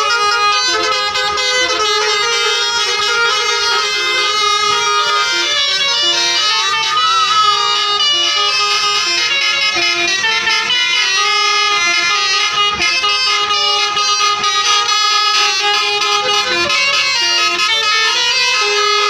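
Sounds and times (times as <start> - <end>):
bus musical horns playing tunes: 0.0 - 19.0.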